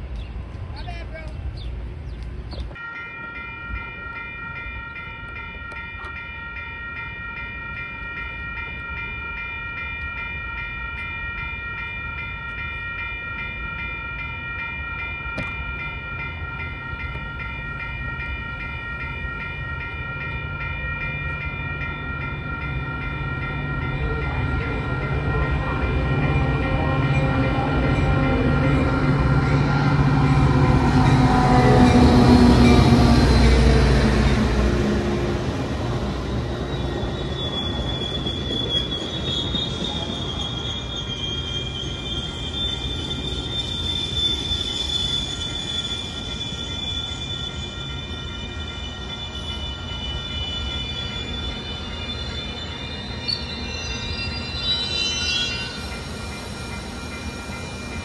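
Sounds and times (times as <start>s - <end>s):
crossing warning bells ringing: 0.0s - 58.0s
diesel train rumbling: 0.0s - 58.0s.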